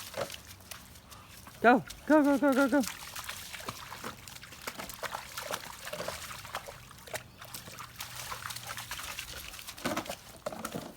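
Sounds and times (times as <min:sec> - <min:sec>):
dog splashing through puddles: 0:00.0 - 0:10.9.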